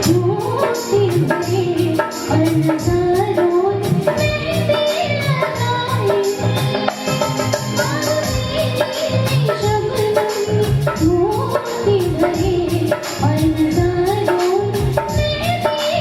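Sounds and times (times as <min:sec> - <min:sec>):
percussion beat: 0:00.0 - 0:16.0
woman singing: 0:00.0 - 0:16.0.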